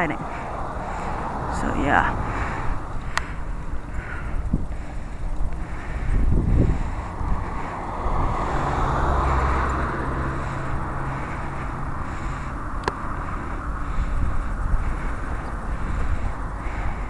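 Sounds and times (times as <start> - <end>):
car passing: 0.0 - 17.0.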